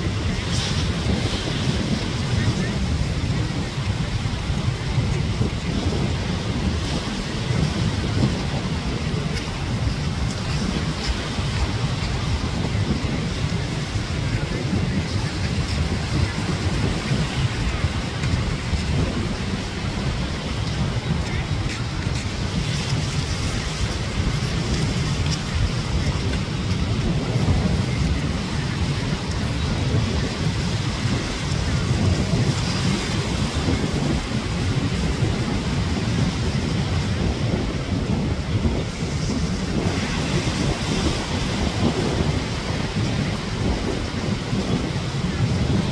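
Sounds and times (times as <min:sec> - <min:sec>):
surf breaking on shore: 0:00.0 - 0:45.9
wind buffeting microphone: 0:00.0 - 0:45.9.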